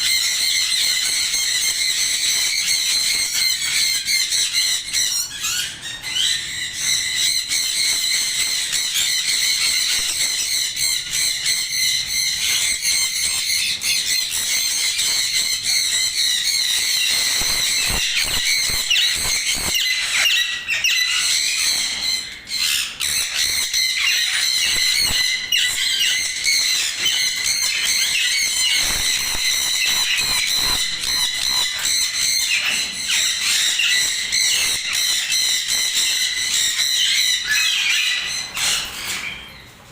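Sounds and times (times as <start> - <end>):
parrots squawking and chattering: 0.0 - 39.9.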